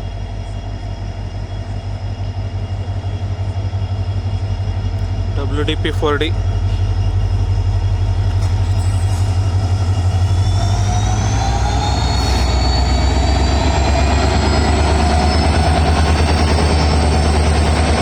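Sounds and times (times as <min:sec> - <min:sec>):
locomotive engine throbbing: 0:00.0 - 0:18.0
high whine: 0:03.6 - 0:18.0.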